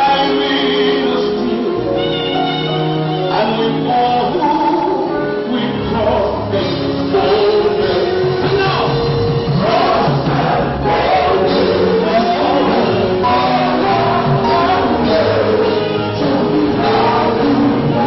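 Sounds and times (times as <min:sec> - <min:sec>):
man singing into microphone: 0:00.0 - 0:02.5, 0:03.1 - 0:18.0
bass line: 0:00.0 - 0:18.0
gospel band playing: 0:00.0 - 0:18.0
voices singing along: 0:00.0 - 0:18.0.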